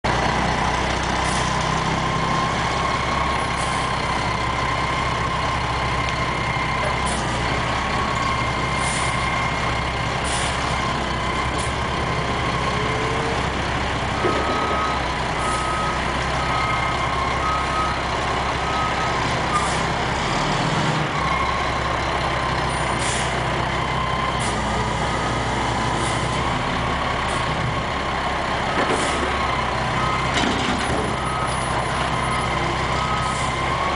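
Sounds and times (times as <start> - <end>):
diesel engine running with whine: 0.0 - 33.9.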